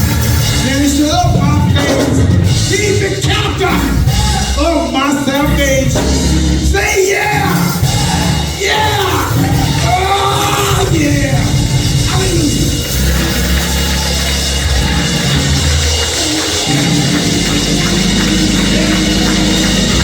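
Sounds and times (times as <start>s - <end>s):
gospel band with heavy bass: 0.0s - 20.0s.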